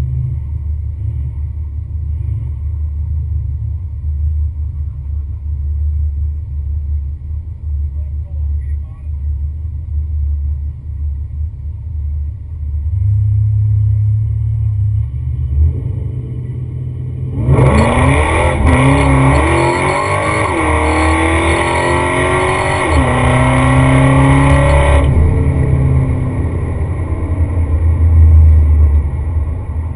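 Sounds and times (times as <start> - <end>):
truck engine rumbling and revving: 0.0 - 29.9.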